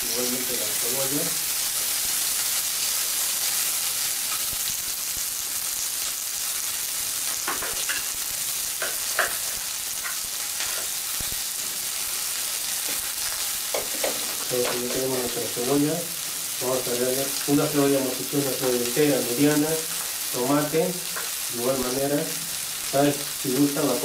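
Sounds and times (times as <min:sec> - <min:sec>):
onion frying in oil: 0:00.0 - 0:24.0.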